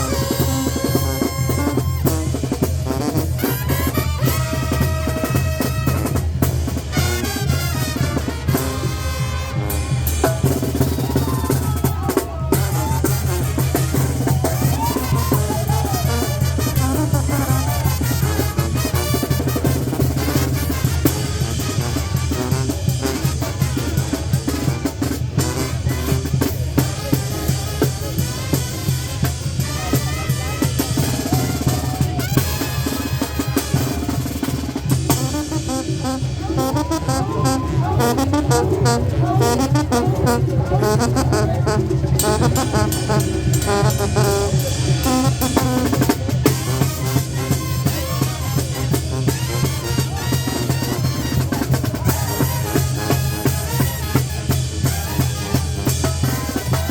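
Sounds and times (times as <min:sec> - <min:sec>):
horn melody: 0:00.0 - 0:56.9
snare and bass drum beat: 0:00.0 - 0:56.9.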